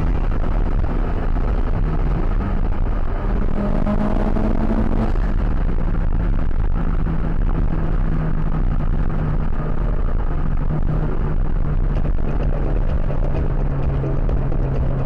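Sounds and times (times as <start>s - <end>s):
car engine droning: 0.0s - 15.0s
road and wind noise: 0.0s - 15.0s.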